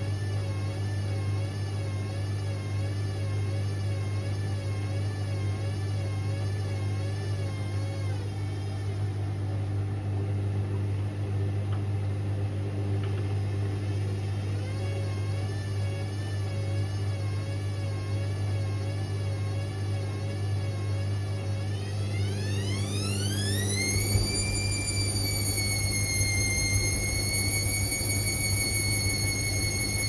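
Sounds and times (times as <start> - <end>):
washing machine motor humming: 0.0 - 30.0.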